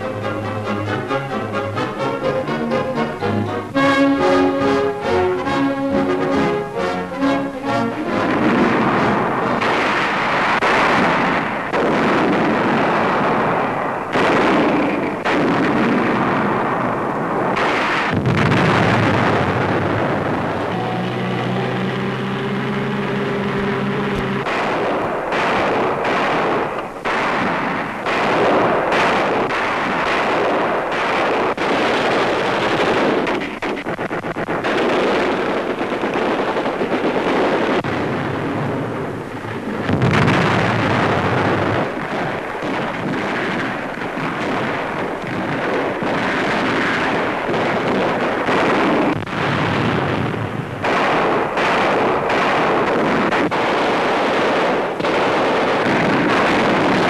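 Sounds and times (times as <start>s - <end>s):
heavy explosions: 0.0s - 57.0s
rifle and machine-gun fire: 3.8s - 57.0s.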